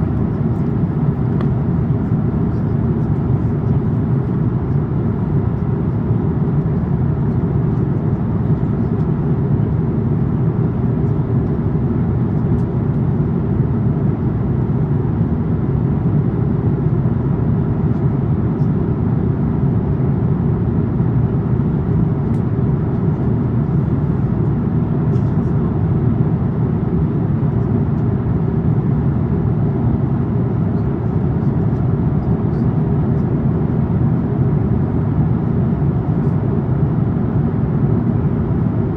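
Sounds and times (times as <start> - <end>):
airplane cabin roar in flight: 0.0 - 38.9.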